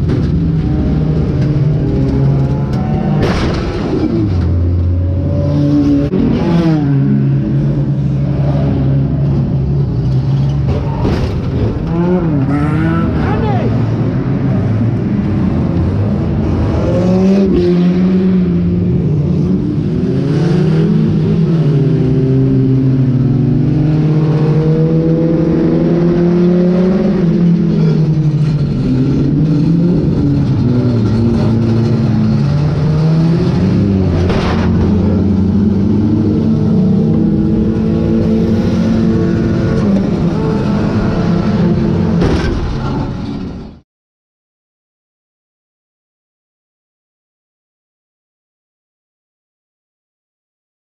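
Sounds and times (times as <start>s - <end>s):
car engine revving: 0.0s - 43.6s.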